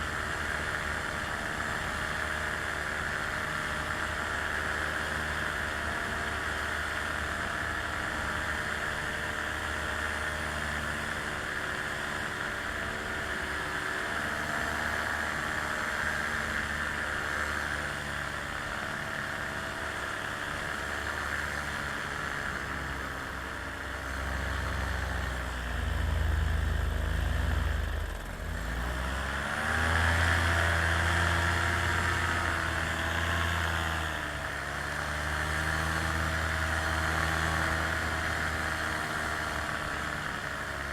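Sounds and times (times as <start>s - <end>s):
small aircraft motor running: 0.0s - 40.9s.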